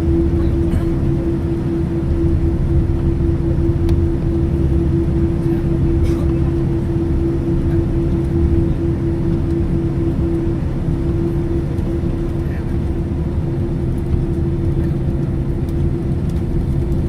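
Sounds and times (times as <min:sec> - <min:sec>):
airliner low rumble: 0:00.0 - 0:17.0
constant mid-pitched hum: 0:00.0 - 0:17.0.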